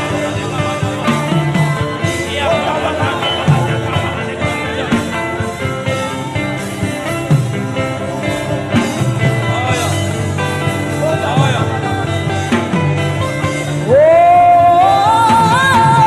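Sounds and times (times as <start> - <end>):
sustained instrumental accompaniment: 0.0 - 16.0.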